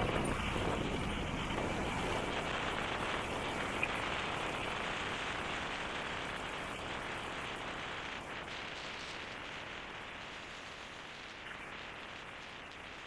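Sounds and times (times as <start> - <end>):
motorcycle road noise: 0.0 - 13.0
wind rushing over microphone: 0.0 - 13.0.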